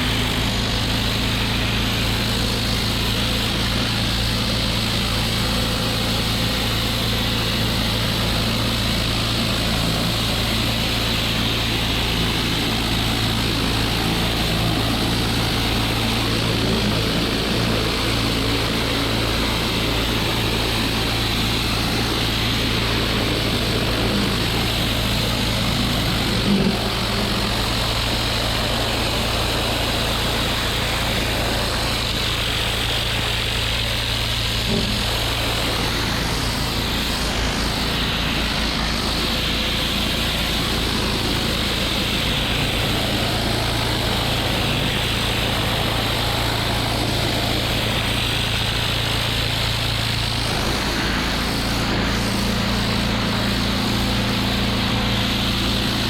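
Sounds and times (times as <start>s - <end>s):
high-pressure water spray hissing: 0.0s - 56.0s
pressure washer engine running: 0.0s - 56.0s.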